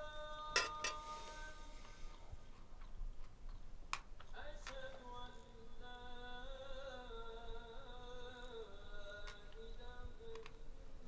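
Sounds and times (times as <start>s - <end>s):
person singing wordless melody: 0.0s - 2.4s, 4.3s - 11.0s.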